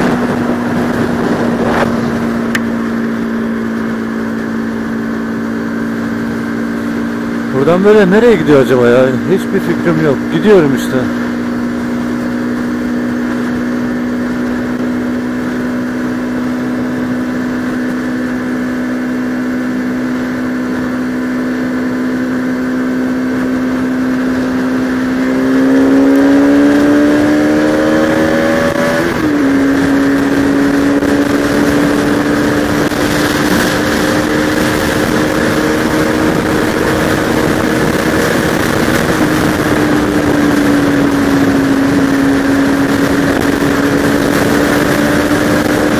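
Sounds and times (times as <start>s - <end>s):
motorcycle engine cruising: 0.0s - 45.9s
rushing wind noise: 0.0s - 45.9s.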